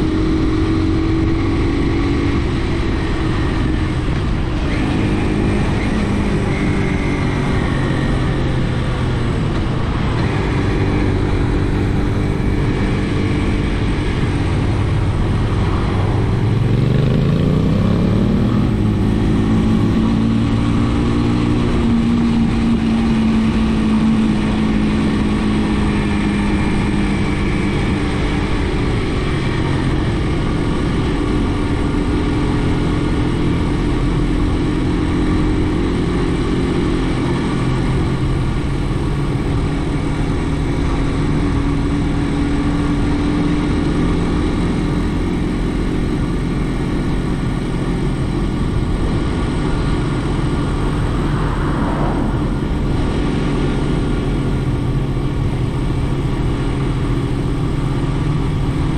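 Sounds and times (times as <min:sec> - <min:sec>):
motorcycle engine revving: 0:00.0 - 0:58.9
wind and road noise: 0:00.0 - 0:58.9.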